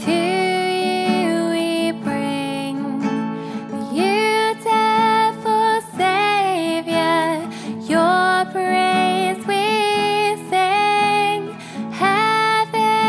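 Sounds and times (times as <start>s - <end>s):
acoustic guitar accompaniment: 0.0s - 13.0s
woman singing: 0.0s - 13.0s.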